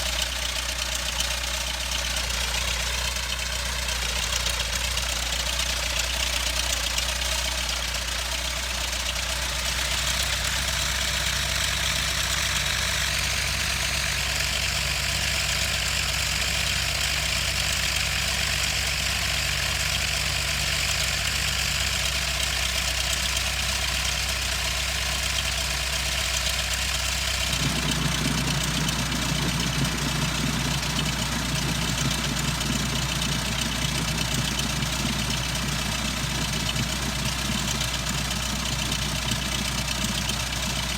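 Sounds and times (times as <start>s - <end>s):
piston aircraft engine idling: 0.0s - 40.9s.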